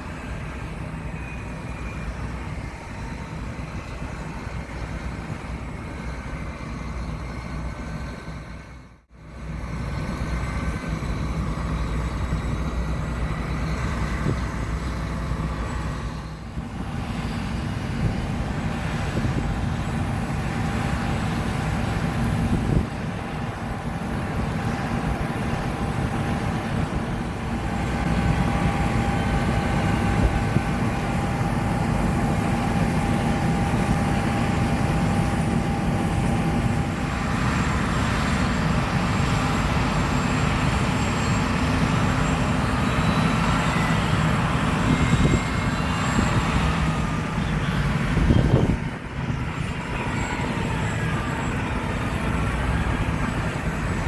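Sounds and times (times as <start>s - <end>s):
combine harvesters running: 0.0s - 54.0s.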